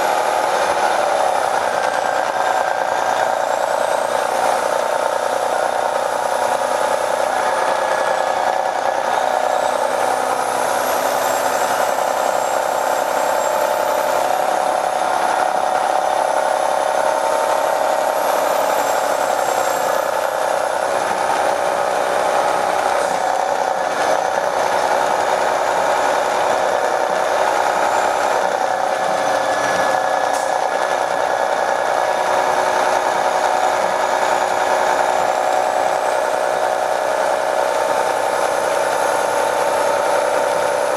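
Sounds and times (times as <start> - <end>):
diesel bus engine drone: 0.0 - 40.9.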